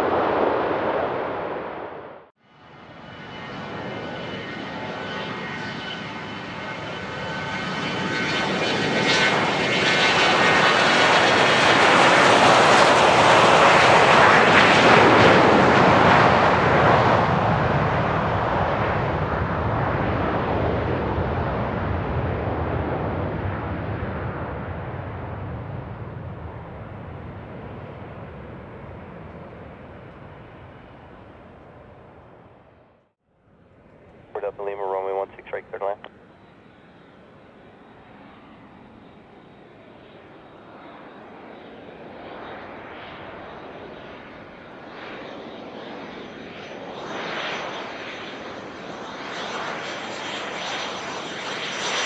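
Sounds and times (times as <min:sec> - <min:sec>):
jet engines passing by: 0:00.0 - 0:33.0, 0:33.6 - 0:52.0.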